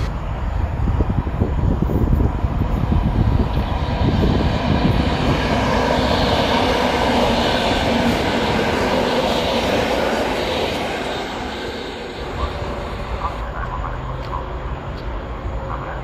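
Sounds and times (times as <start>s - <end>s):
train passing on rails: 0.0s - 16.0s.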